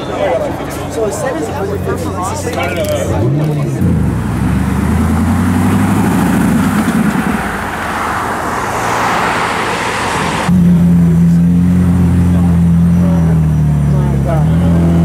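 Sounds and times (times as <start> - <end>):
road and traffic hiss: 0.2 - 14.7
car engine pulling away: 2.6 - 15.0.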